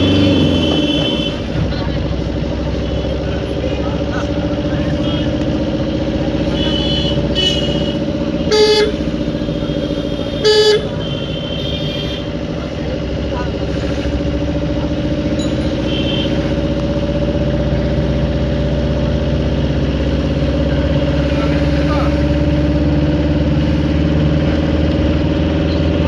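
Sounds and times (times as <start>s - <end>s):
engine droning steadily: 0.0s - 26.0s.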